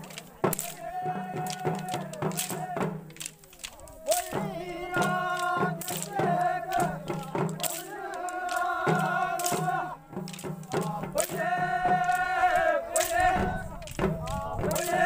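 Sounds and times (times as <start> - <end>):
canes clacking together: 0.0 - 11.4, 12.0 - 15.0.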